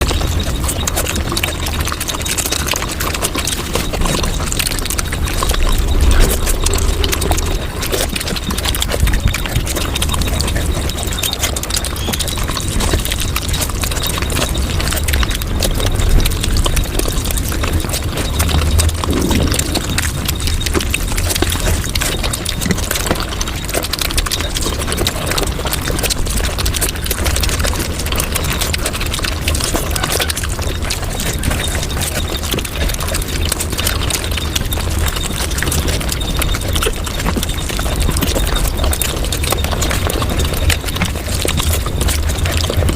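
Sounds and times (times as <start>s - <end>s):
sped-up chewing sounds: 0.0s - 42.9s.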